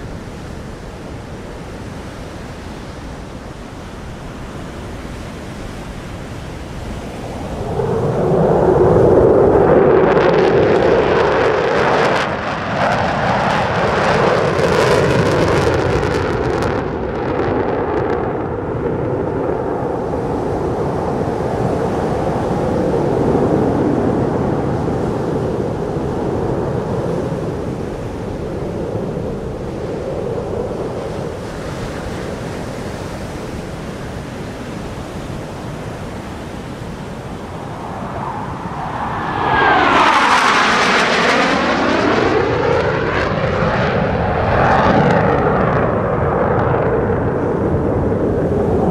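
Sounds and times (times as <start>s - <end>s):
fighter jet engine roar: 0.0s - 48.9s.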